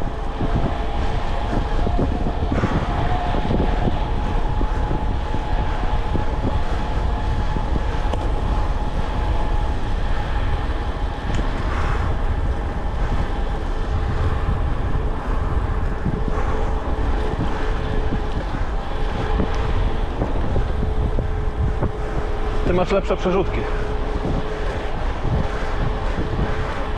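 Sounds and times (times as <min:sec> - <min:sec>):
bicycle tyre and drivetrain noise: 0:00.0 - 0:26.9
faint steady hum: 0:00.0 - 0:26.9
wind rushing over microphone: 0:00.0 - 0:26.9.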